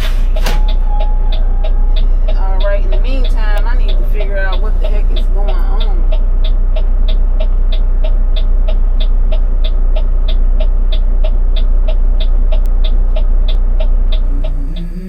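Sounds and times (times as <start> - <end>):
diesel truck engine rumbling: 0.0 - 15.0
regular ticking: 0.0 - 15.0.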